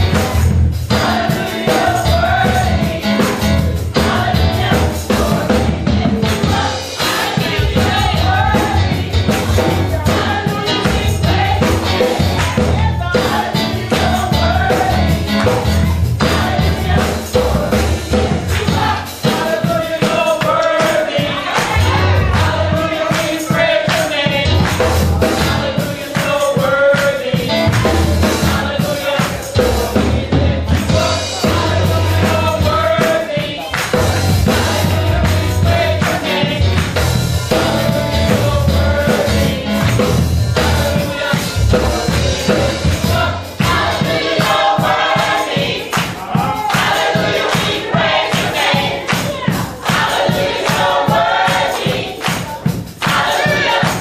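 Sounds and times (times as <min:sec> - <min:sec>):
gospel choir singing: 0:00.0 - 0:54.0.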